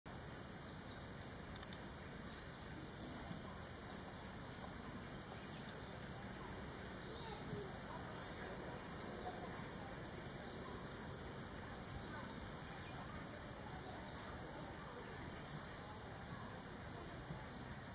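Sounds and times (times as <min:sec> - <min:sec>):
steady background hiss: 0:00.1 - 0:17.9.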